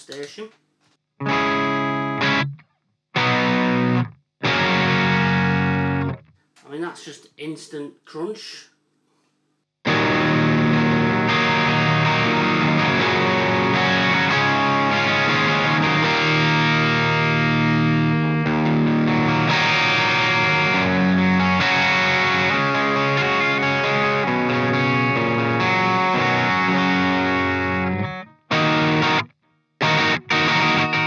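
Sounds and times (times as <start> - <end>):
distorted electric guitar: 1.2 - 6.4, 9.9 - 31.0.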